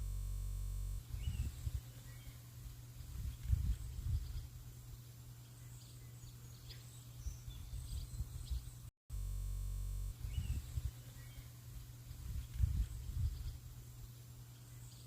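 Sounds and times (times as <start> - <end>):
steady buzzing hum: 0.0 - 15.0
small birds chirping: 1.0 - 8.9, 10.1 - 15.0.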